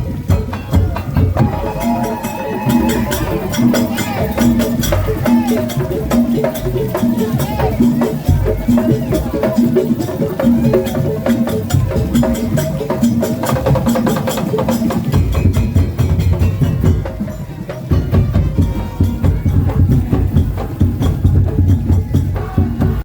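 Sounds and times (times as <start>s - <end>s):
parade percussion music: 0.0s - 23.0s.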